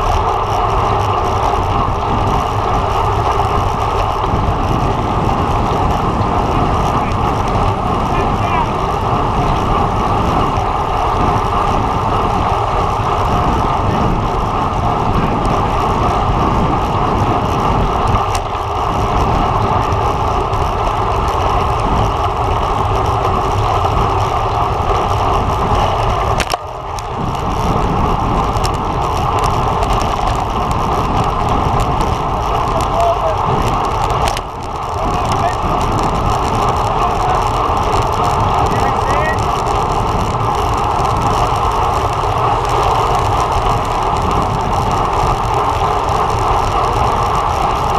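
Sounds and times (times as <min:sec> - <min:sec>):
wind and road noise: 0:00.0 - 0:47.9
wind on microphone: 0:00.0 - 0:47.9.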